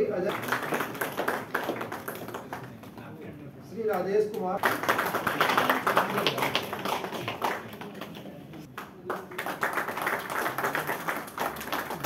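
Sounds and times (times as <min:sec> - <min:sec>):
people clapping: 0:00.0 - 0:03.2, 0:04.3 - 0:12.0.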